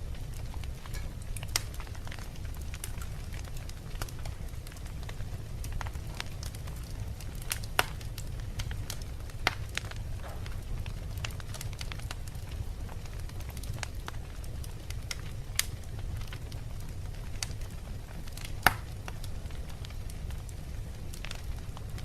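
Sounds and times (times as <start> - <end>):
wood logs crackling in fireplace: 0.0 - 22.0.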